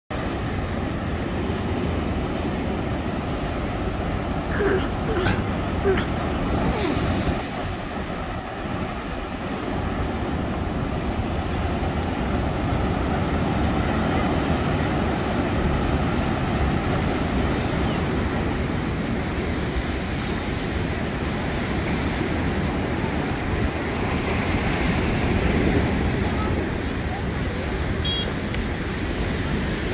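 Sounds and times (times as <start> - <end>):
surf breaking on beach: 0.2 - 29.9.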